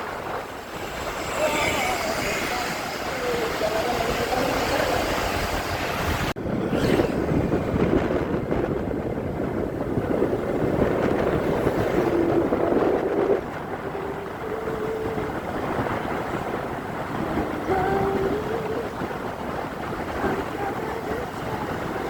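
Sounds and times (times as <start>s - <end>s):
motorcycle engine hum: 0.0s - 22.0s
road noise: 0.0s - 22.0s.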